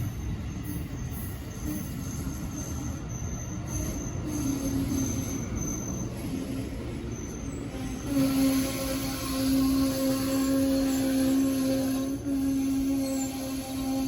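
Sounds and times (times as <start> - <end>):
train rumbling on rails: 0.0 - 14.0
wheel squeal: 0.0 - 14.0.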